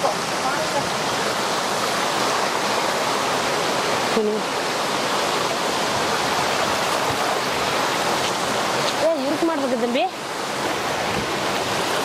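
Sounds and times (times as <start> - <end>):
stream splashing over rocks: 0.0 - 12.0.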